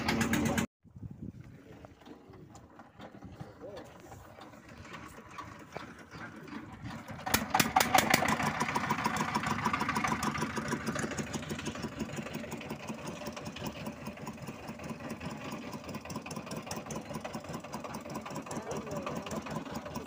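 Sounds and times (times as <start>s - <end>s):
boat engine chugging: 0.0s - 0.7s, 1.4s - 20.0s.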